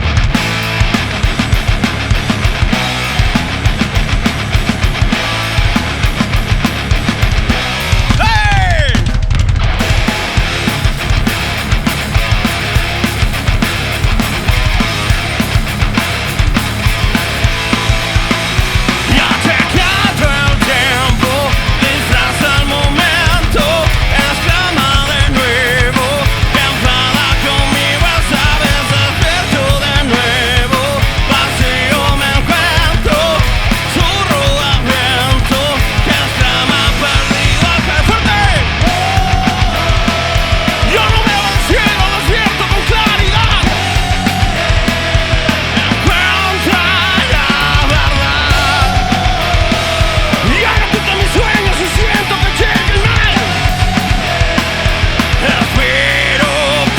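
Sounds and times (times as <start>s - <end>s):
electric guitars melody: 0.0s - 8.2s, 9.6s - 56.9s
drums: 0.0s - 56.9s.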